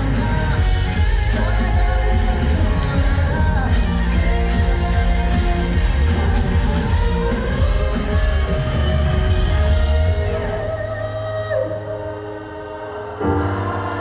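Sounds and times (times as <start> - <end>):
drums and bass: 0.0 - 11.6
held guitar and keyboard notes: 0.0 - 14.0.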